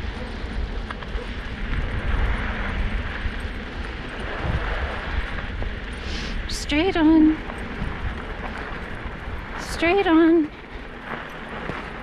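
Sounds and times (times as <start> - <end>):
scooter tyres rolling on snow: 0.0 - 12.0
wind rumbling on microphone: 0.0 - 12.0.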